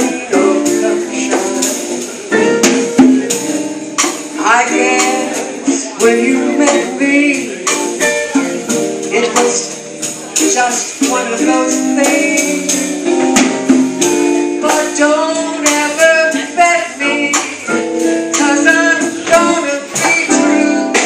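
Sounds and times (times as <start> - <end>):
jazz combo playing: 0.0 - 21.0.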